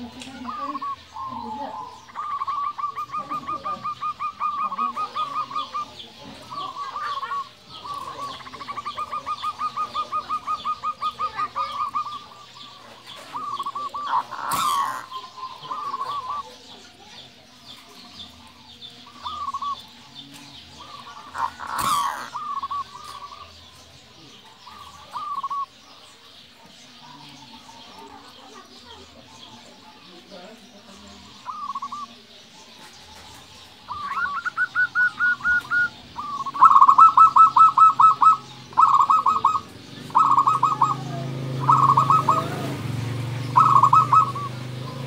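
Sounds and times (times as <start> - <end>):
dove cooing: 0.0 - 30.2, 30.8 - 45.0.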